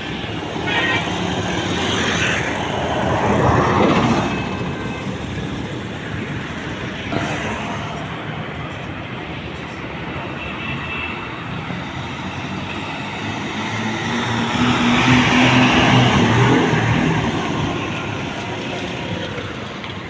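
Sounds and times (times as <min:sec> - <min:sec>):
heavy vehicle engine drone: 0:00.0 - 0:20.0.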